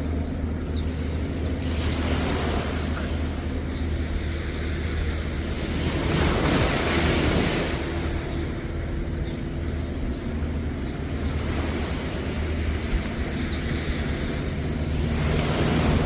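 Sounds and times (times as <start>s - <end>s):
wind buffeting microphone: 0.0s - 16.0s
sea waves washing on beach: 1.0s - 16.0s.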